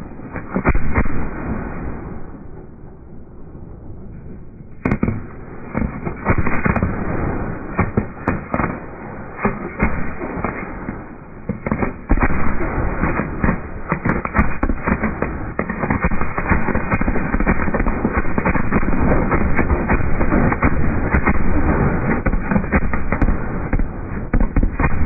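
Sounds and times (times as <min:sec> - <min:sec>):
continuous rumble: 0:00.0 - 0:25.0
fireworks bangs: 0:04.8 - 0:25.0.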